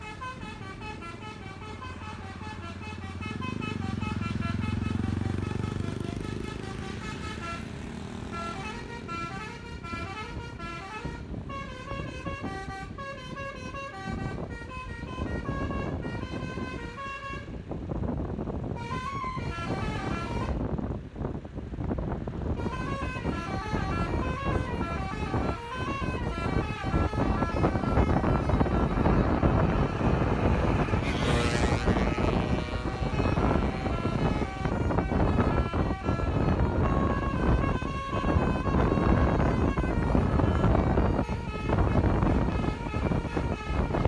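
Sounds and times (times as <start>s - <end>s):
multi-tone bus air horn melody: 0.0s - 20.8s, 21.8s - 44.0s
road and engine rumble: 0.0s - 44.0s.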